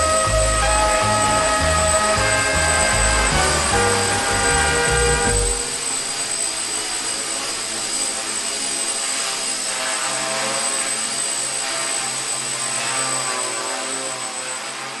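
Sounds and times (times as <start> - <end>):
quadcopter propellers whirring: 0.0 - 15.0
thin high whine: 0.0 - 15.0.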